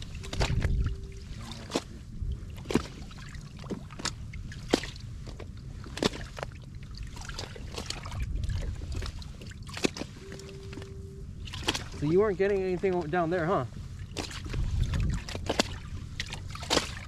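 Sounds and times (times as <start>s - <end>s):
low rumble: 0.0s - 17.0s
water lapping against kayak hull: 0.0s - 17.0s.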